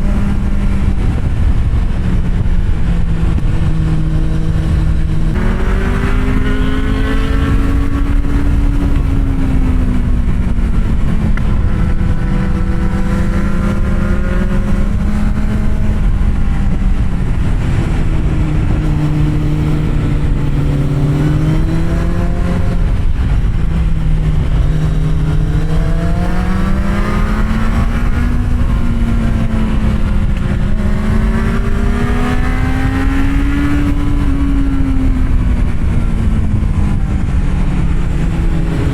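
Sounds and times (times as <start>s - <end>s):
motorcycle engine revving: 0.0s - 38.9s
wind rumble on microphone: 0.0s - 38.9s.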